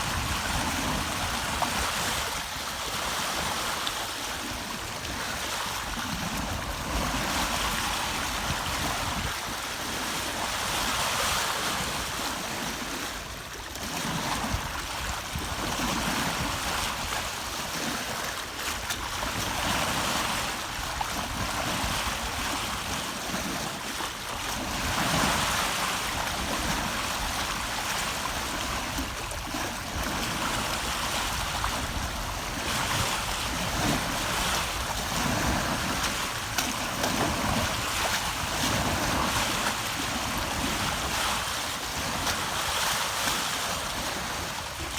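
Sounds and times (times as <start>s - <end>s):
water splashing along boat hull: 0.0s - 44.9s
wind: 0.0s - 44.9s.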